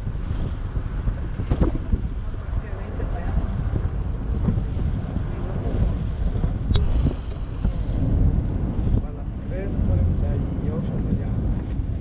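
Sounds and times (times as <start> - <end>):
moving vehicle rumble: 0.0 - 12.0
wind buffeting microphone: 0.0 - 12.0.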